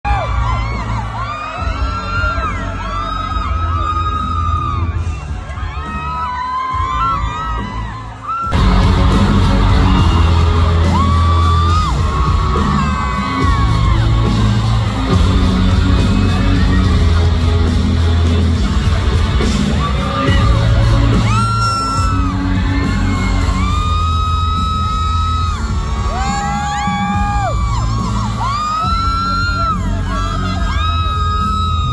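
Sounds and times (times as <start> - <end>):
fans yelling and whooping: 0.0 - 31.9
live pop band with singer: 0.0 - 31.9.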